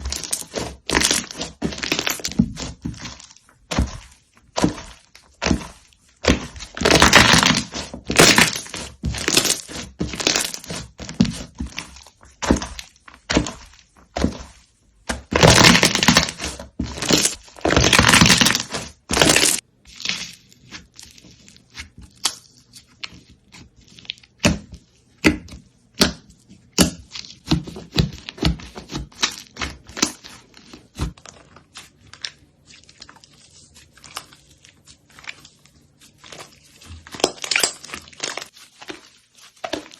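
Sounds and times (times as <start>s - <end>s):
slime clicking and crackling: 0.0s - 14.5s, 15.2s - 24.5s, 26.0s - 39.9s.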